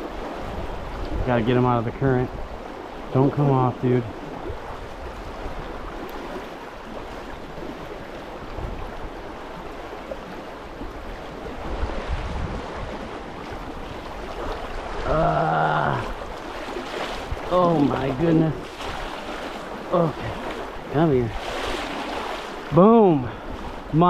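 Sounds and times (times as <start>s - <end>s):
stream water rushing: 0.0s - 24.0s
wind buffeting microphone: 0.0s - 24.0s.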